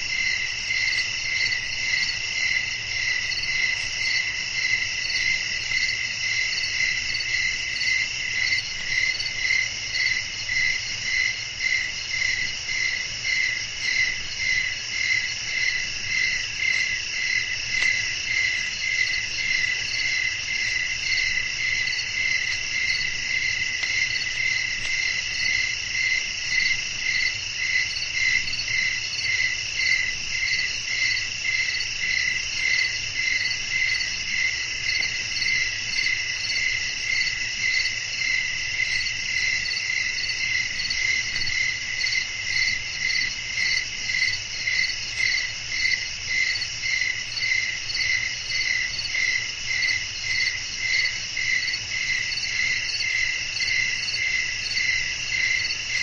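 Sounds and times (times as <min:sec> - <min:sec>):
crickets trilling: 0:00.0 - 0:56.0
cricket chirping in a regular beat: 0:00.1 - 0:56.0.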